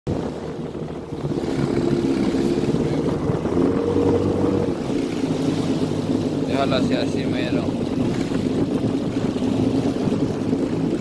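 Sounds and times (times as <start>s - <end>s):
jet ski engine running: 0.1s - 11.0s.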